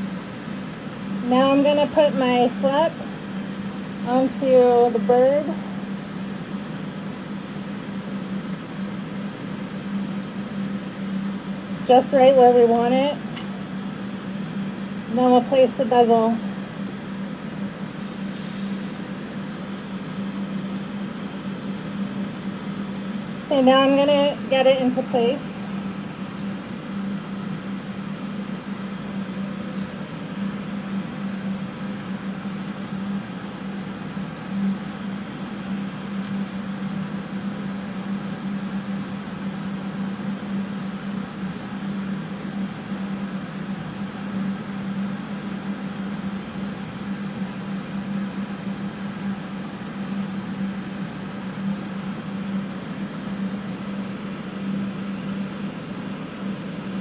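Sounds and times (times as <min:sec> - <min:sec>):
electric fans rushing: 0:00.0 - 0:57.0
low fan hum: 0:00.0 - 0:57.0.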